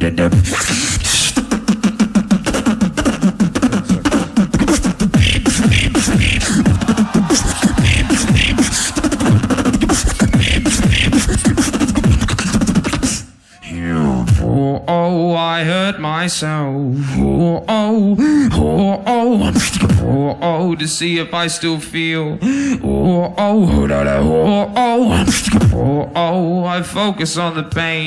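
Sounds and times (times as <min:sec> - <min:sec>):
beatboxing into a microphone: 0:00.0 - 0:28.0.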